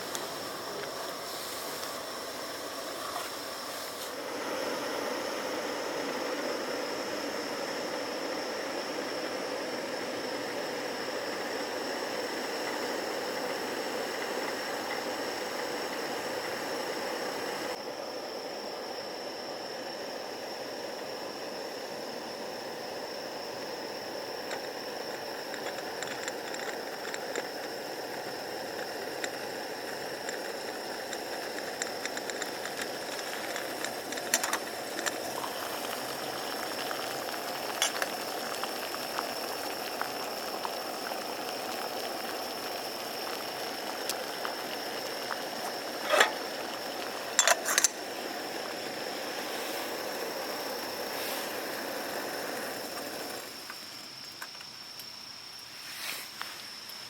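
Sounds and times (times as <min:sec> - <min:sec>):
high insect drone: 0:00.0 - 0:57.0
water hissing in a pot: 0:00.0 - 0:57.0.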